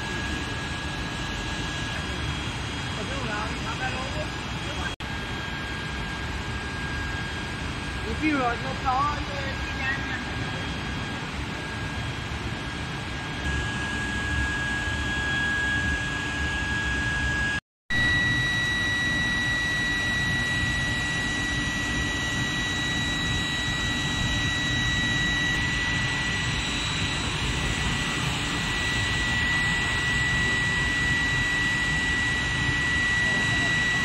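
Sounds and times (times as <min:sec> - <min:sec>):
induction coil high whine: 0:00.0 - 0:34.0
machine hum: 0:00.0 - 0:34.0.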